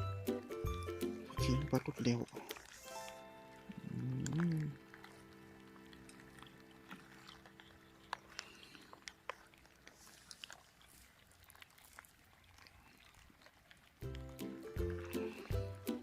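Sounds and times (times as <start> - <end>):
faint sharp clicks and ticks: 1.4 - 16.0.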